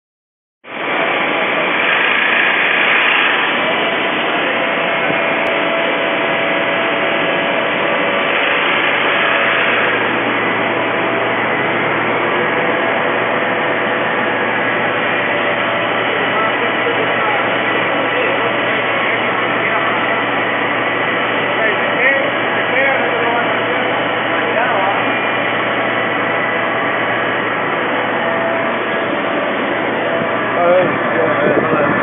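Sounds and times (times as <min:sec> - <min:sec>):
factory machinery running: 0:00.7 - 0:32.0.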